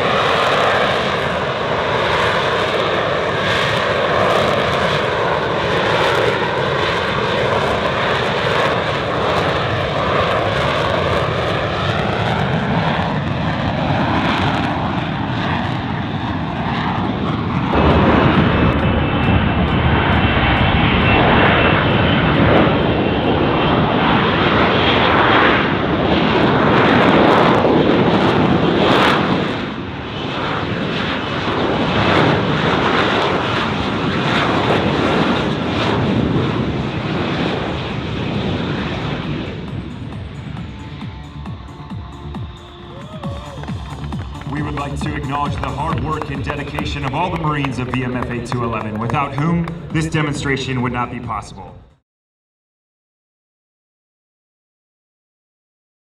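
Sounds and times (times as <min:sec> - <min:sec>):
jet engine running: 0:00.0 - 0:52.0.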